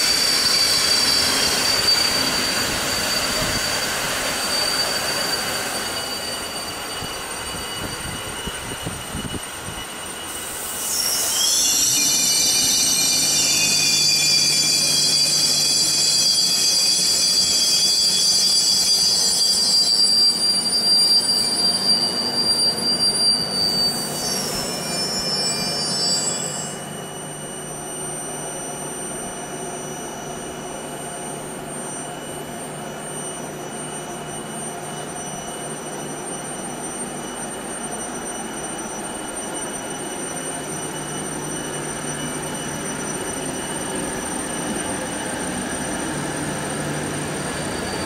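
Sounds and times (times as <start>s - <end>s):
high-pitched brake squeal: 0.0s - 48.0s
train rolling and braking: 0.0s - 48.0s.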